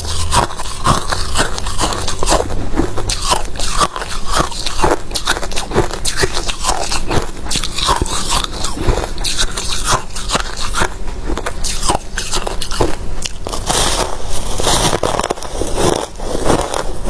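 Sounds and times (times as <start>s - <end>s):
frost being chewed crunching: 0.0s - 17.0s.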